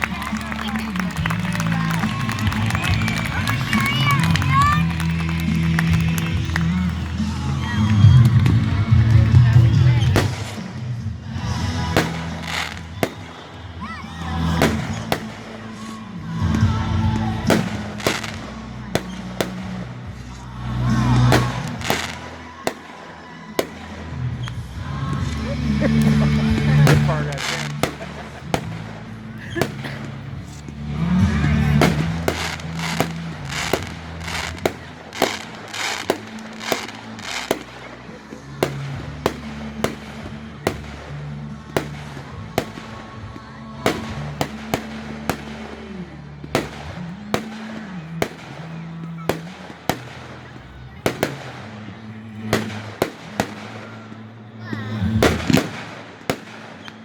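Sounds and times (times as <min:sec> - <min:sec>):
background music: 0:00.0 - 0:57.0
fireworks bangs: 0:00.0 - 0:57.0
fireworks crackling: 0:00.0 - 0:57.0.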